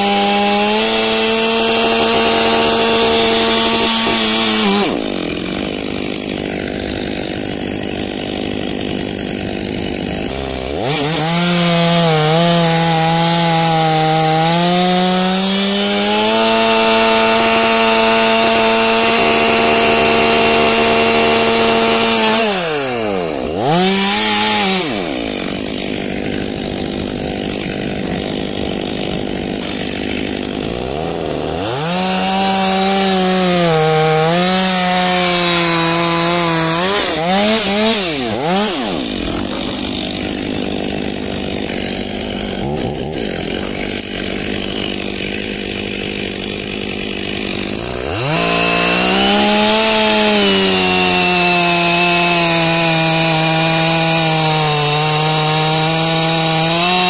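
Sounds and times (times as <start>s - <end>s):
chainsaw sawing through logs: 0.0s - 57.0s.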